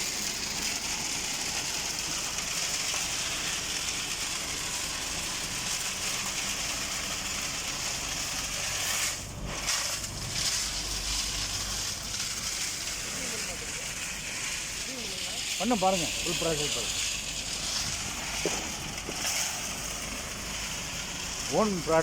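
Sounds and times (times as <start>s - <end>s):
concrete mixer running: 0.0s - 22.0s.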